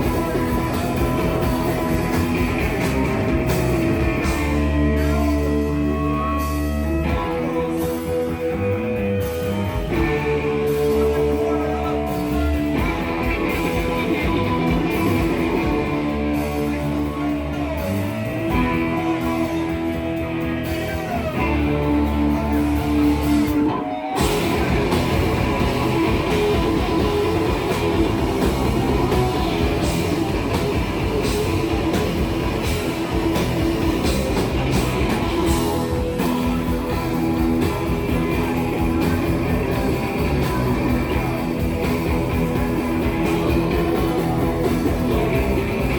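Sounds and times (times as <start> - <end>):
electric guitar bending notes: 0.0 - 45.9
rock band playing: 0.0 - 45.9.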